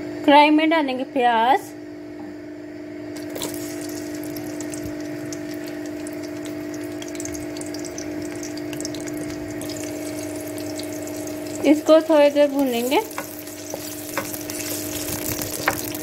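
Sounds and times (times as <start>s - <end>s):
low hum: 3.1s - 16.0s
onion sizzling in hot oil: 3.2s - 16.0s.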